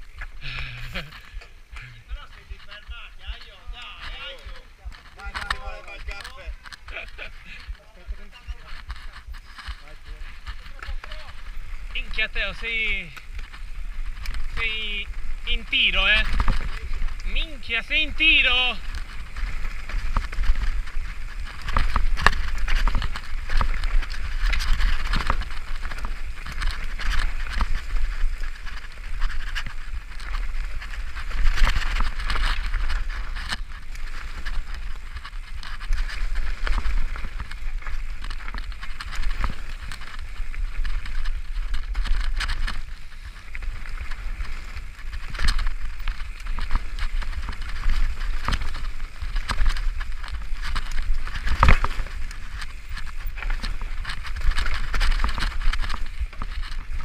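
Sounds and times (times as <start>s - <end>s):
bike rattling over bumps: 0.0s - 57.0s
tyres crunching over dirt and stones: 0.0s - 57.0s
wind rumble: 0.0s - 57.0s.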